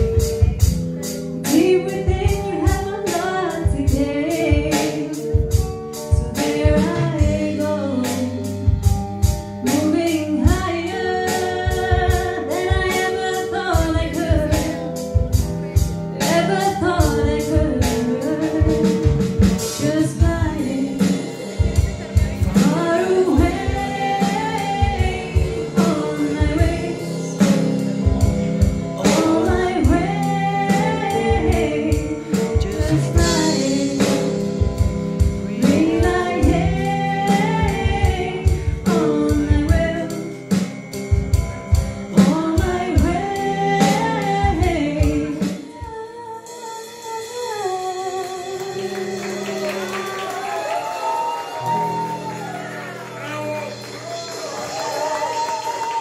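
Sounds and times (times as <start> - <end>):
woman singing: 0.0 - 41.3, 42.1 - 50.6
acoustic guitar: 0.0 - 46.2
drums keeping a steady beat: 0.0 - 56.0.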